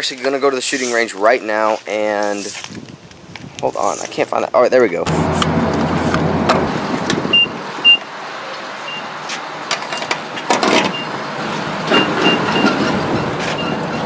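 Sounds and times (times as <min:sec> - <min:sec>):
road noise: 0:00.0 - 0:14.0
vehicle engine rumble: 0:00.0 - 0:14.0.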